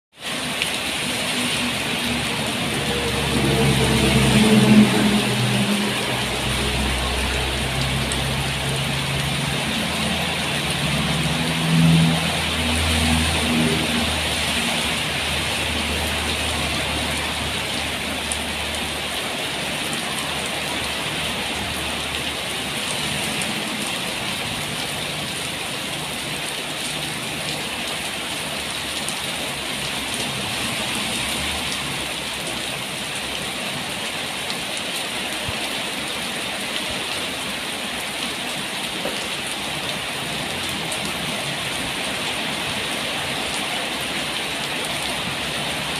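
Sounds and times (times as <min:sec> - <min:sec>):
steady rain falling: 0:00.1 - 0:45.9.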